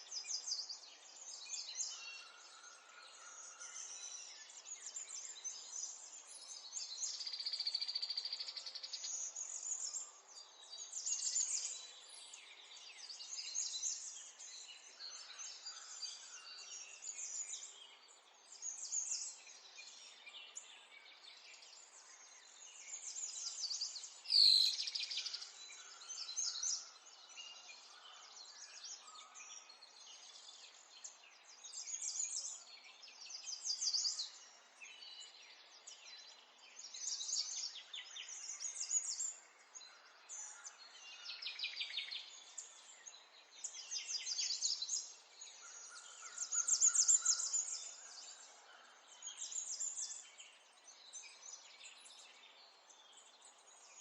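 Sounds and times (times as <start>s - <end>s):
songbirds singing and trilling: 0.0s - 54.0s.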